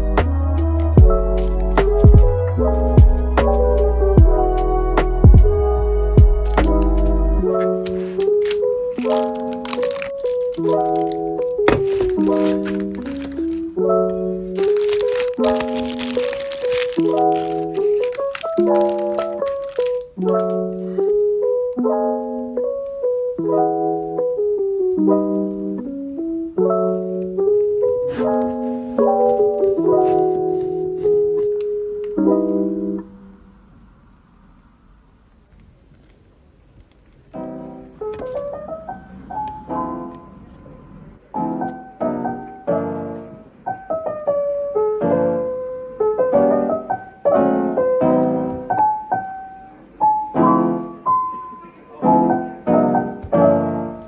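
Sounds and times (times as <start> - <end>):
mellow electric piano music: 0.0 - 33.9, 36.8 - 54.0.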